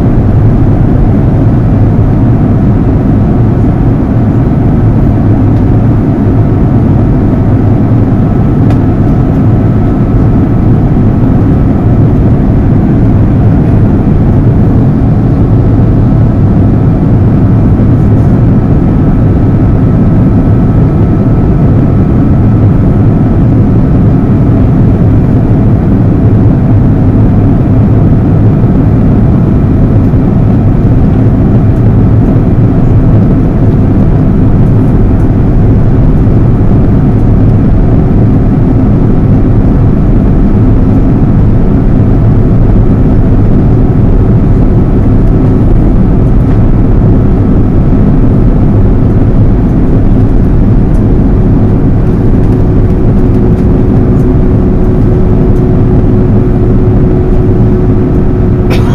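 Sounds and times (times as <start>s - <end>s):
faint steady hum: 0.0s - 58.9s
jet engine rumble: 0.0s - 58.9s.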